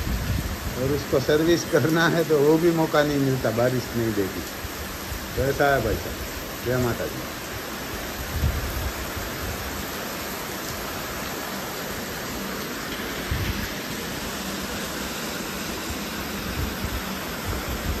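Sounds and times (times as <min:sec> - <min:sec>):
rain on concrete: 0:00.0 - 0:18.0.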